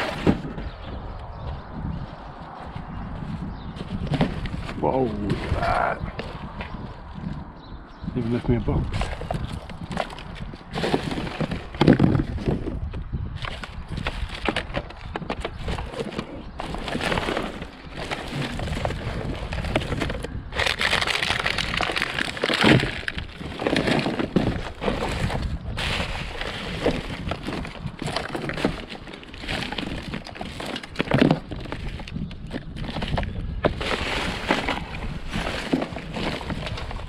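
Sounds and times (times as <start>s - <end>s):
scrap clattering and scraping: 0.0s - 0.8s, 3.7s - 6.7s, 8.7s - 12.8s, 13.4s - 37.0s.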